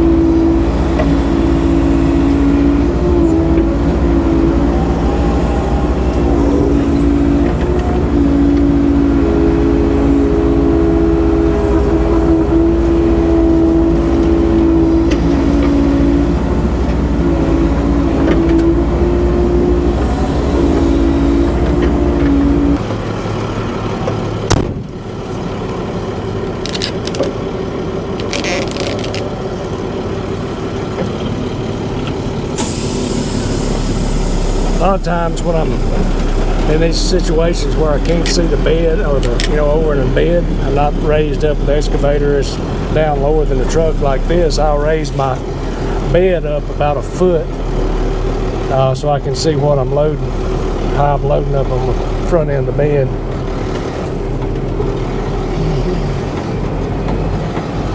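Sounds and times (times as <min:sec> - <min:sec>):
excavator diesel engine running: 0:00.0 - 0:57.9
hydraulic whine: 0:00.0 - 0:57.9.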